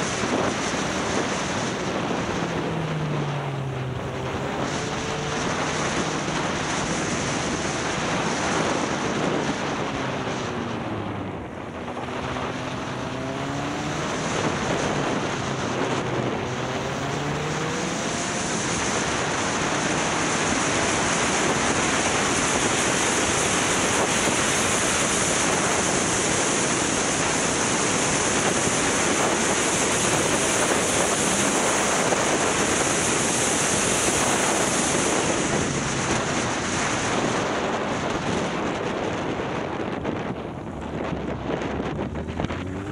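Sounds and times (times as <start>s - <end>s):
wind noise on microphone: 0.0s - 42.9s
motorcycle engine changing gears: 0.1s - 38.6s, 39.9s - 42.9s.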